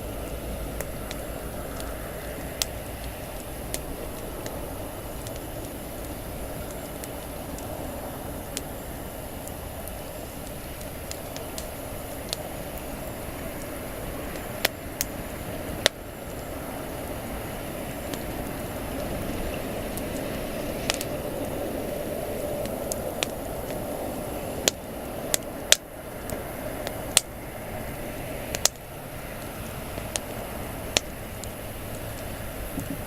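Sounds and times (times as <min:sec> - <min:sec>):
burning wood popping and cracking: 0:00.0 - 0:33.0
campfire flames rushing: 0:00.0 - 0:33.0.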